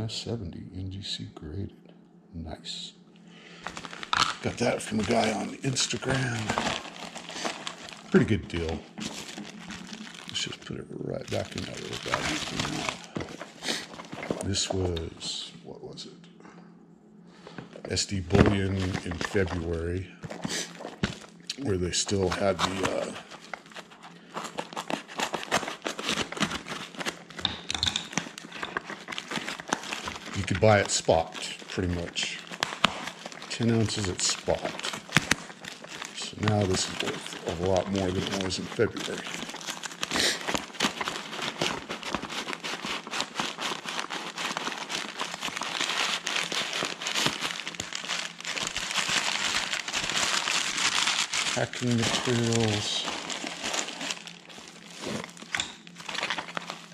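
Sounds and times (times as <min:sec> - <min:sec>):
plastic packaging crinkling: 0:03.4 - 0:15.3, 0:17.6 - 0:56.9.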